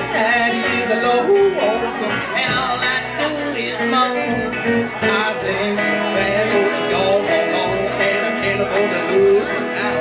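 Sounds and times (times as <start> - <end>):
country band instrumental: 0.0 - 10.0.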